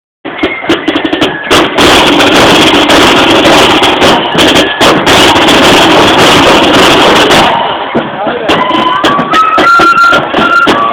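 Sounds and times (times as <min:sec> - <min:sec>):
side drums tapping: 0:00.2 - 0:10.9
marching flute band playing: 0:00.3 - 0:10.9.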